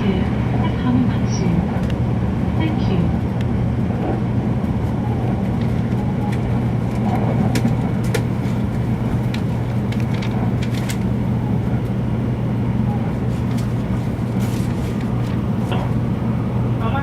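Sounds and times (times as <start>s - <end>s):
train running rumble and hum: 0.0s - 17.0s.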